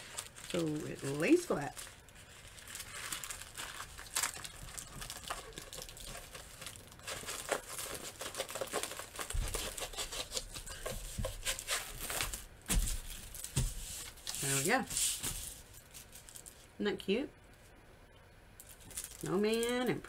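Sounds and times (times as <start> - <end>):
plastic film crinkling: 0.0 - 16.7, 18.6 - 20.0.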